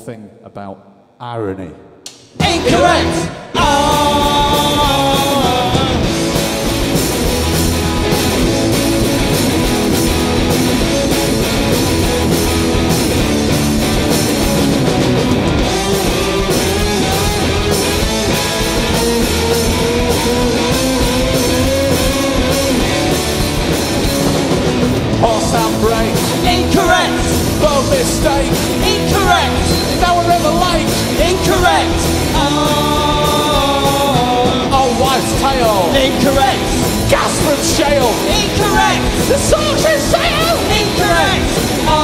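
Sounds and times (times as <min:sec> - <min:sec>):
live rock band playing: 0:02.2 - 0:42.0.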